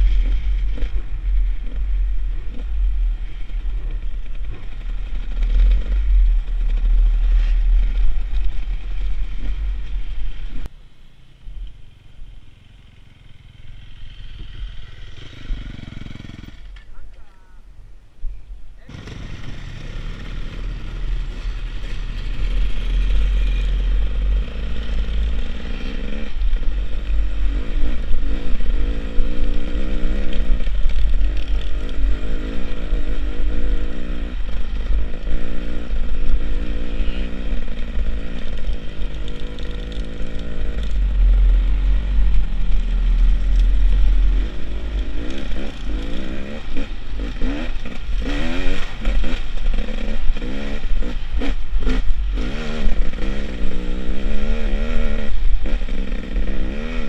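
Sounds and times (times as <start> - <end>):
motorcycle engine revving: 0.0 - 10.7, 12.5 - 16.9, 18.8 - 57.0.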